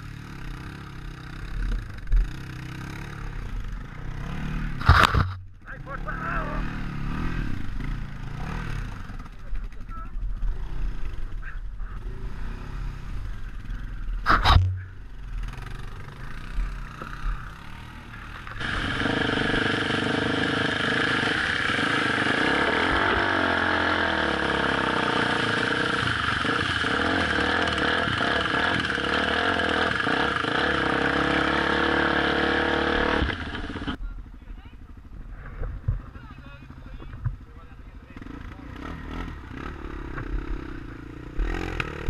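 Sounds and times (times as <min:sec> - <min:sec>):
dirt bike engine running: 0:00.0 - 0:42.0.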